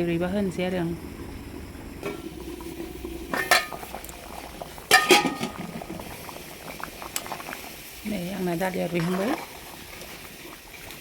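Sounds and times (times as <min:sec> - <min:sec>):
curry bubbling: 0:00.0 - 0:11.0.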